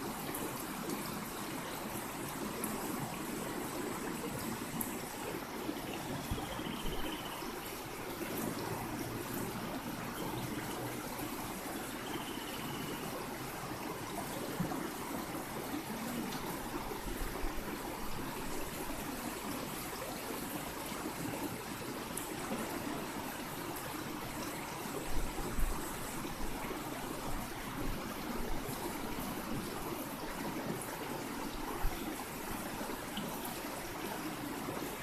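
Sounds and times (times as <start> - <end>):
river water rushing and trickling: 0.0 - 35.0.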